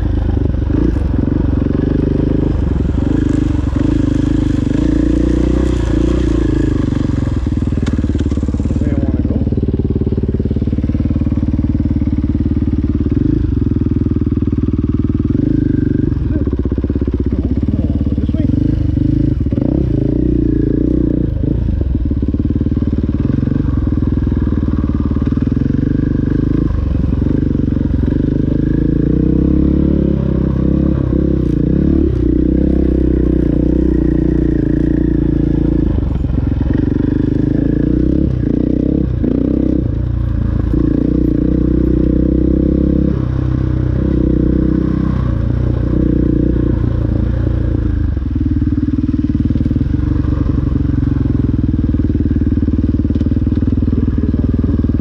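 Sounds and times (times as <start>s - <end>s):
dirt bike engine revving: 0.0s - 13.7s, 15.1s - 52.8s.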